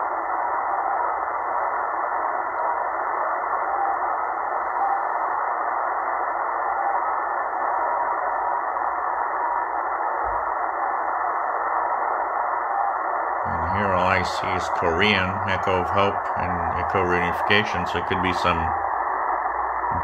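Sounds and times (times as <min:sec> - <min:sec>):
radio rushing noise with tones: 0:00.0 - 0:20.0.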